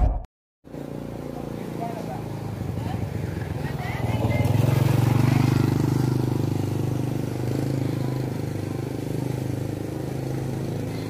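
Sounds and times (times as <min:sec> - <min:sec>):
motorcycle engine running: 0:00.7 - 0:11.0.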